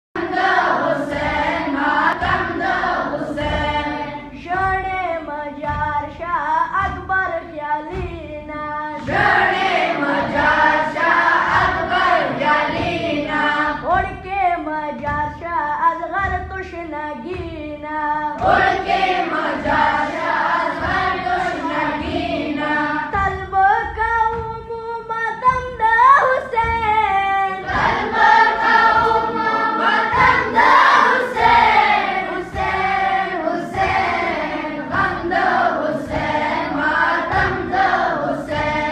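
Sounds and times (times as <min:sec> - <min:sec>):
boys chanting in unison: 0:00.2 - 0:06.3, 0:06.9 - 0:15.7, 0:17.8 - 0:24.4, 0:27.2 - 0:38.9.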